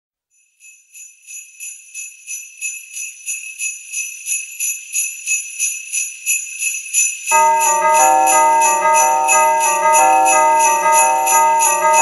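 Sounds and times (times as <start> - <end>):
sleigh bells shaken: 0.4 - 12.0.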